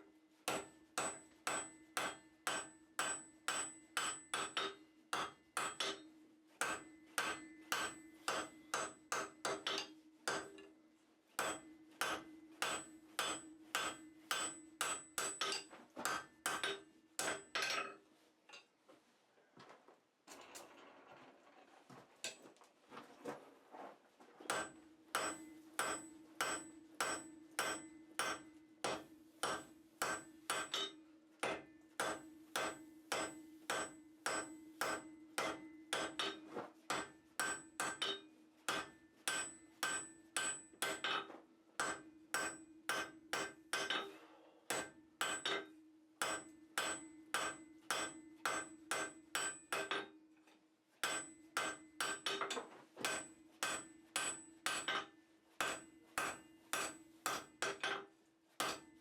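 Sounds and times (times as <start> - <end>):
hammer striking steel on anvil: 0.5 - 10.8, 11.4 - 18.0, 24.5 - 44.1, 44.7 - 50.1, 51.0 - 59.0.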